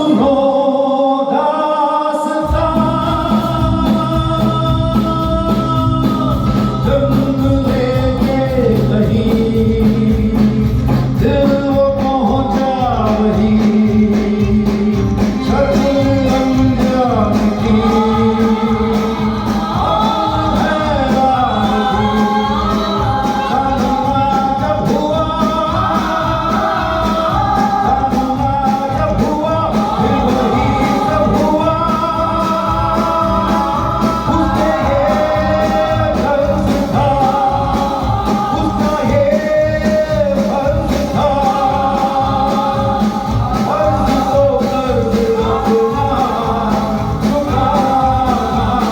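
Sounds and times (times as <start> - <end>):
person singing: 0.0 - 48.9
live band playing: 2.3 - 48.9.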